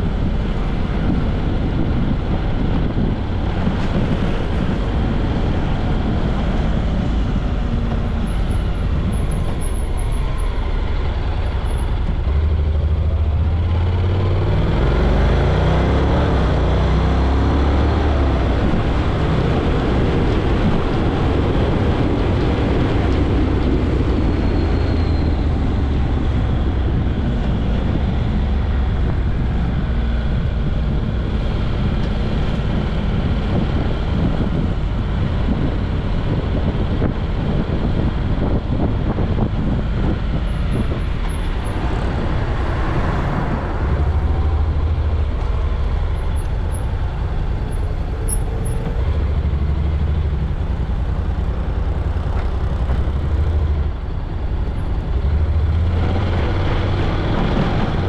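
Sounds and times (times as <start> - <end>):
car engine drone: 0.0 - 58.0.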